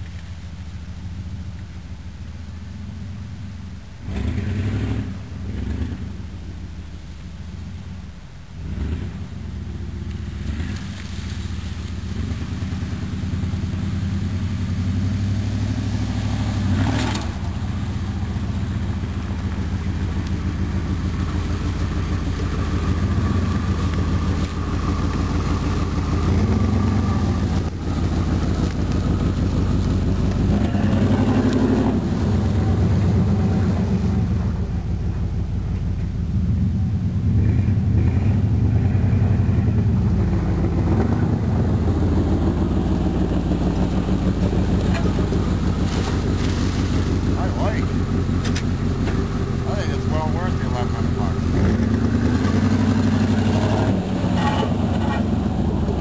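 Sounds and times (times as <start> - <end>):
pickup truck engine approaching: 0.0 - 56.0
engine revving: 4.0 - 6.3, 8.6 - 9.4, 10.3 - 56.0.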